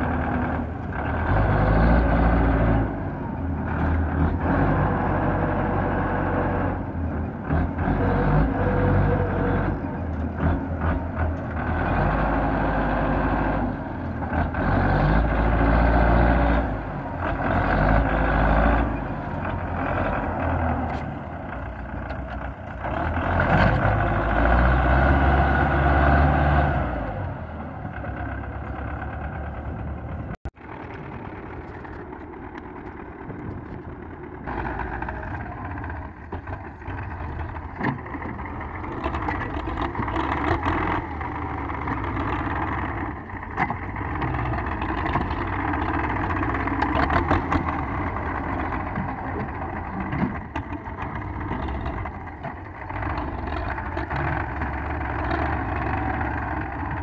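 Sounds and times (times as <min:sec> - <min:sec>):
tractor engine revving under load: 0:00.0 - 0:57.0
tractor engine running steadily: 0:00.0 - 0:57.0.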